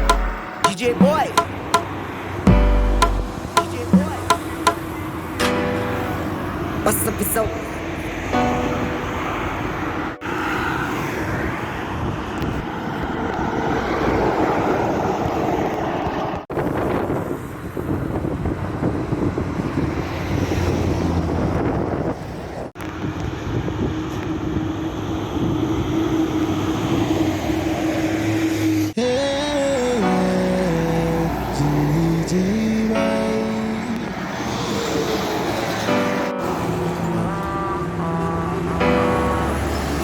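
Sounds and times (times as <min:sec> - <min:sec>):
road vehicles passing: 0:00.0 - 0:40.0.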